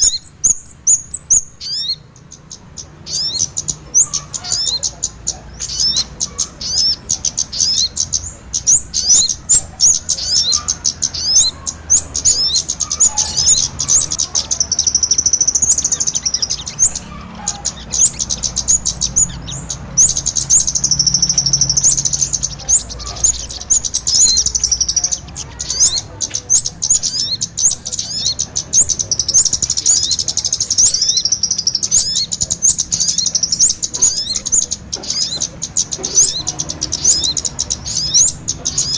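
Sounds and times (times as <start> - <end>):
continuous high bird trill: 0.0 - 38.9
rapid high bird chirps: 0.0 - 38.9.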